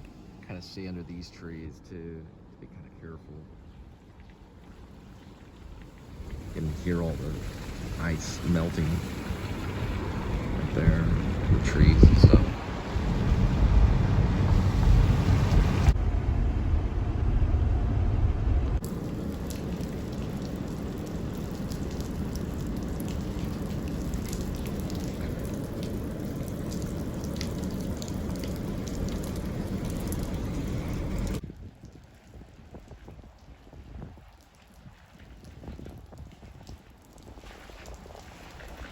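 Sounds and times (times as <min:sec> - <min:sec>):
low rumble of wind or road: 0:00.0 - 0:38.9
melting ice dripping off trees: 0:04.0 - 0:16.0, 0:18.8 - 0:38.9.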